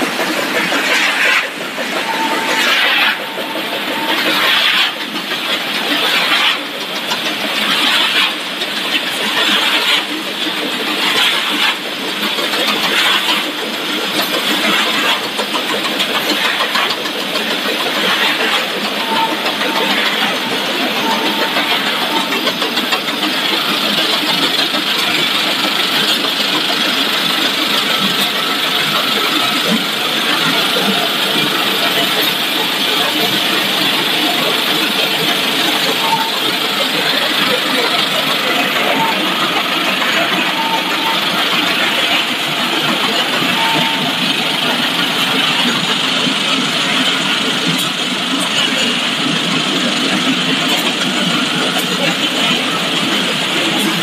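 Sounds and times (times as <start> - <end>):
factory machinery running: 0.0 - 54.0.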